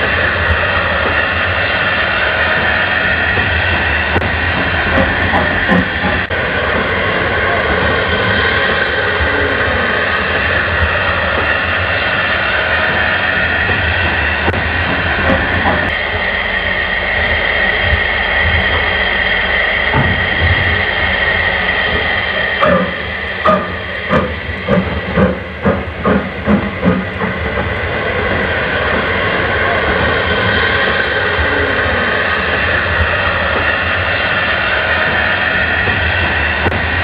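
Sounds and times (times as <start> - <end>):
wheel rumble on track: 0.0 - 37.0.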